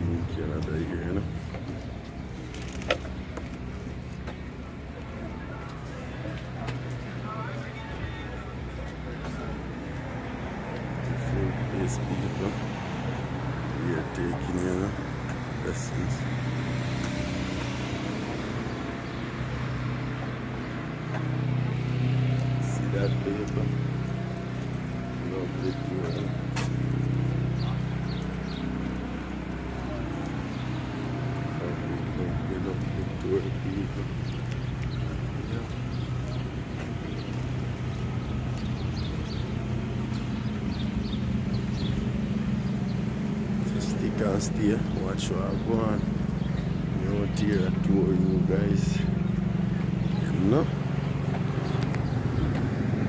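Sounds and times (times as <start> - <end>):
street traffic: 0.0 - 53.0
vehicle engine humming: 0.0 - 53.0.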